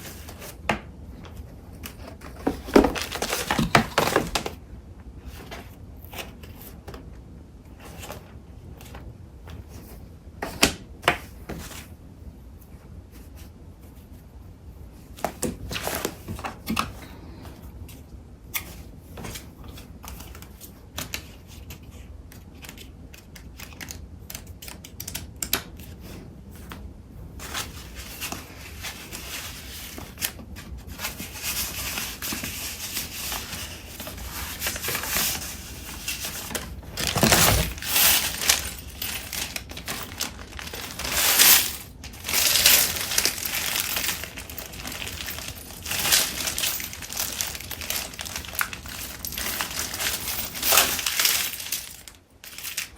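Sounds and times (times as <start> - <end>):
paper rustling and crinkling: 0.0 - 4.6, 15.0 - 52.9.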